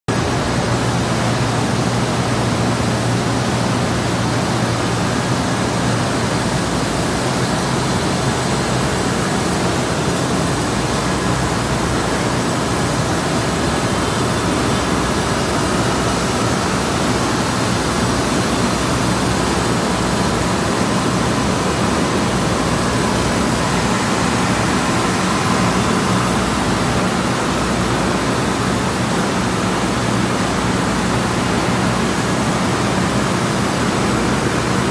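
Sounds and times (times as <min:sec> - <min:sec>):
printing press rushing noise: 0:00.1 - 0:34.9.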